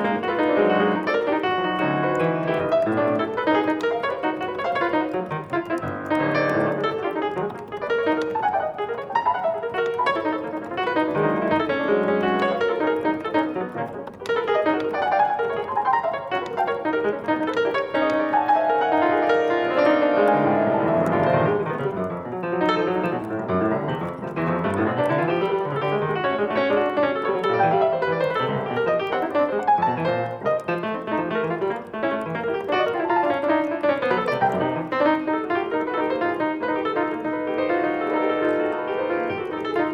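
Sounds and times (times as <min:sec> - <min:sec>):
piano playing: 0:00.0 - 0:39.9.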